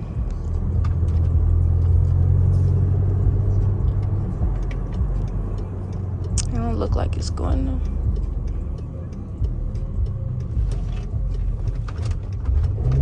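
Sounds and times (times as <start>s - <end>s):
car engine drone from inside cabin: 0.0s - 13.0s.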